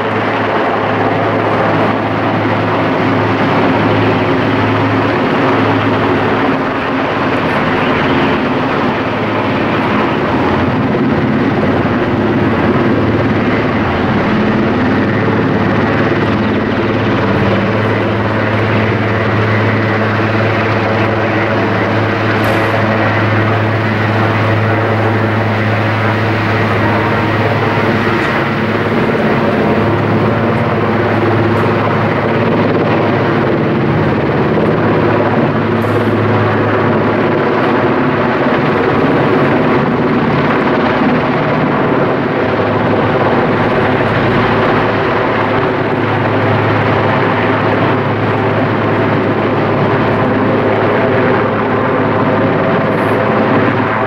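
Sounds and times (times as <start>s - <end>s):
constant low hum: 0.0s - 54.0s
helicopter rotors and engines: 0.0s - 54.0s.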